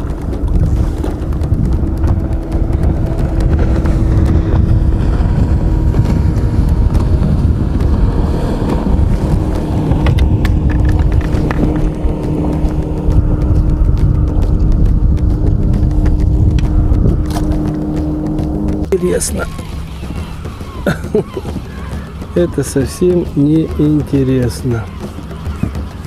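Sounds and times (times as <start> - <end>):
faint motor hum: 0.0 - 26.0
wind buffeting microphone: 0.0 - 26.0.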